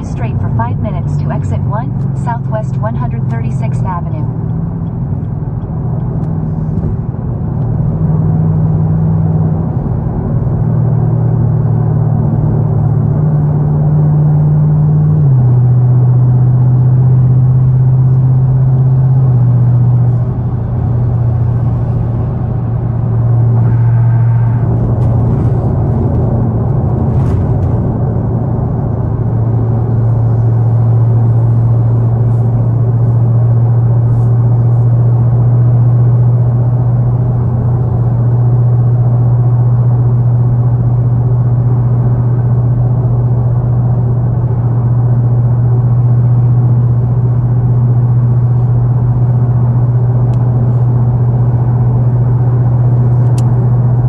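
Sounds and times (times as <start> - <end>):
car engine droning: 0.0 - 54.0
road noise inside car: 0.0 - 54.0.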